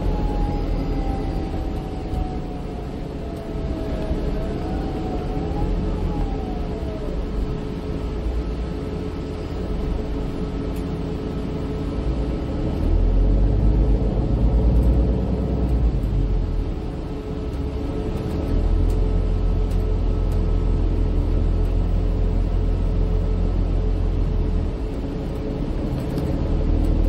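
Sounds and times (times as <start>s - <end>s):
bus drivetrain rumble: 0.0s - 27.0s
constant hum: 0.0s - 27.0s
motor whine: 0.0s - 27.0s
road noise: 0.0s - 27.0s.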